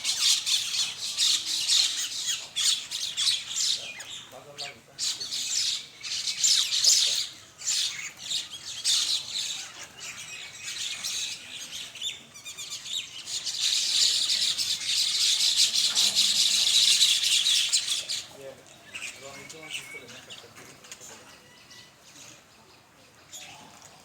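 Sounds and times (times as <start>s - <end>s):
mynas chattering and squawking: 0.0s - 21.8s.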